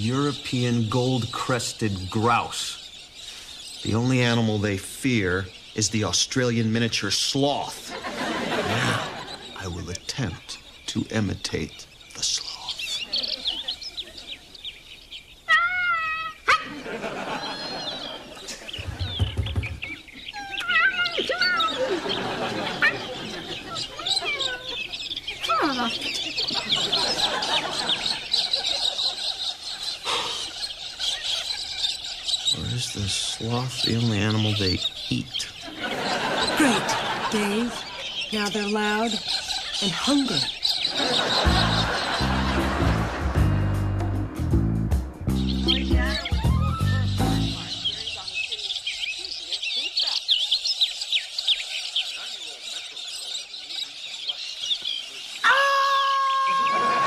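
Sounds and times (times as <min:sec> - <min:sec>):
flock of birds chirping: 0:00.0 - 0:57.0.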